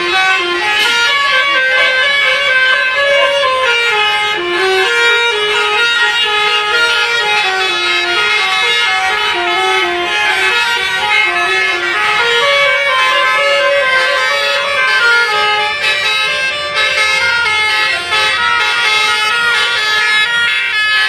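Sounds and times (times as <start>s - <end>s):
musical air horn playing a tune: 0.0s - 21.0s.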